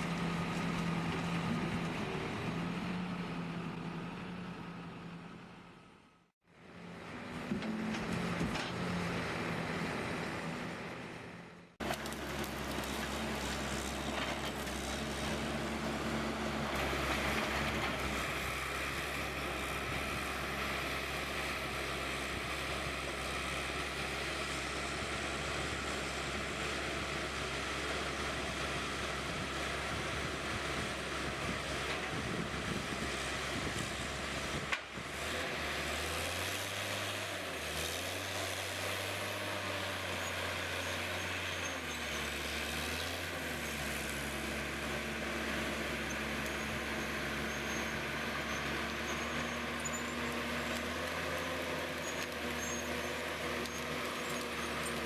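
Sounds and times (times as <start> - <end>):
heavy machinery running: 6.6 - 55.0.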